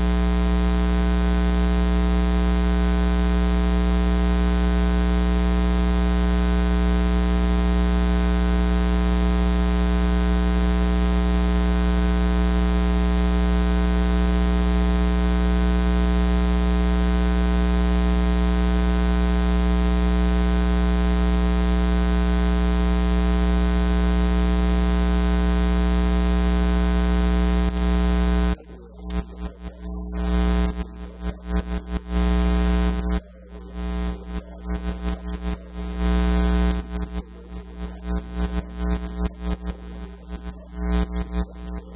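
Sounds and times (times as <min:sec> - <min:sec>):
electrical mains hum: 0:00.0 - 0:41.9.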